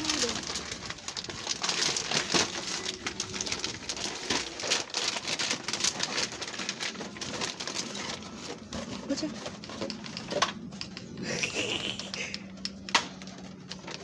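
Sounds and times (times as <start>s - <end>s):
wrapping paper tearing: 0.0s - 14.0s.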